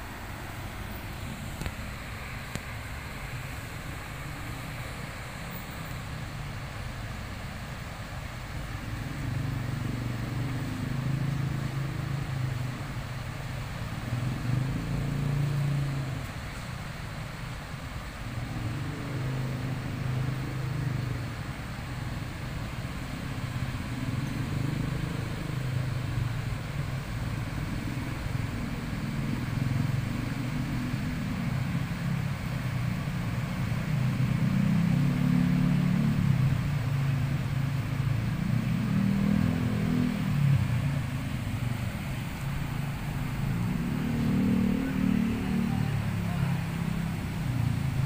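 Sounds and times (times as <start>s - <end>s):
floodwater rushing through weir: 0.0s - 48.0s.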